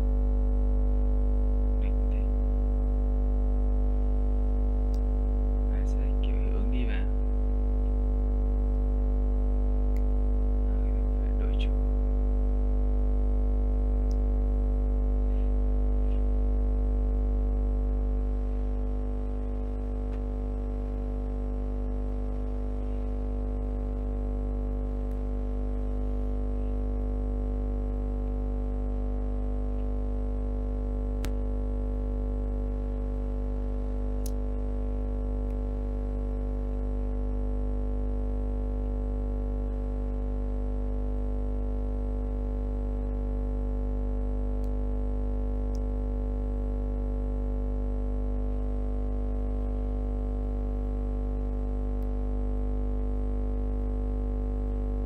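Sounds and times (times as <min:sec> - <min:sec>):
low buzzing hum: 0:00.0 - 0:55.0.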